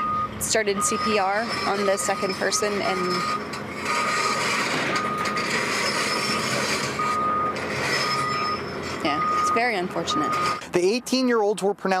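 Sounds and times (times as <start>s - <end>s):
reversing alarm beeping: 0.0s - 10.7s.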